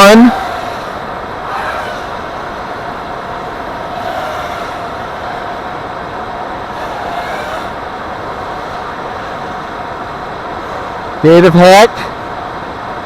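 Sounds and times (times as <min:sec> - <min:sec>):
drone motors whining: 0:00.0 - 0:12.3
steady rushing noise: 0:00.0 - 0:13.0.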